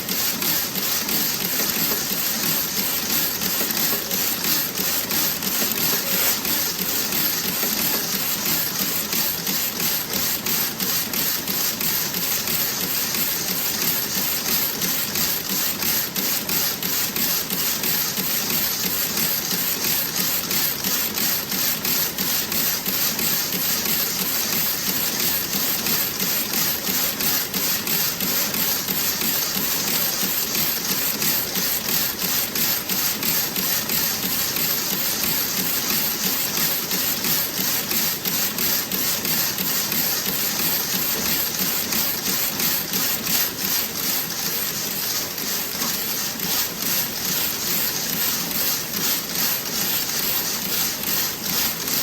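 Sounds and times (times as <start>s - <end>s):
knitting machine clicking: 0.0s - 52.0s.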